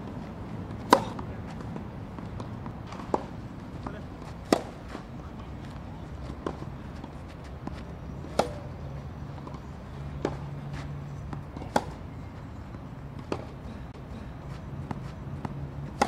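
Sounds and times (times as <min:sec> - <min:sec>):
tennis ball hit with rackets: 0:00.7 - 0:12.2, 0:12.8 - 0:16.0.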